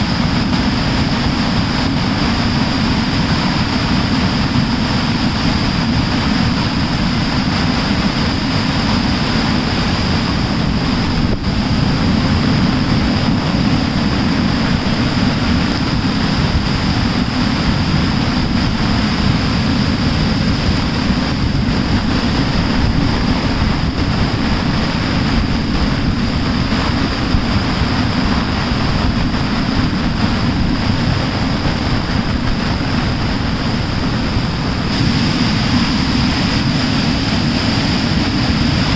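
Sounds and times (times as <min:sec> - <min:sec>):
floodwater rushing with low rumble: 0:00.0 - 0:38.9.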